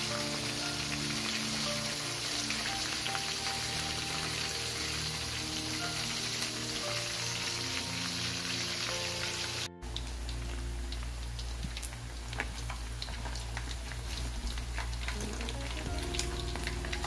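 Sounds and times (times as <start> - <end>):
background music of held notes: 0.0 - 12.4, 15.0 - 17.0
chicken deep-frying in oil: 0.0 - 17.0.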